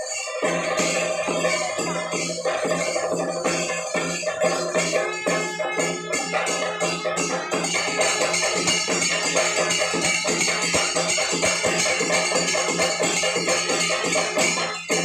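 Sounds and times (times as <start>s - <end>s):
drums beaten with sticks: 0.0s - 15.0s
hand cymbals: 0.0s - 15.0s.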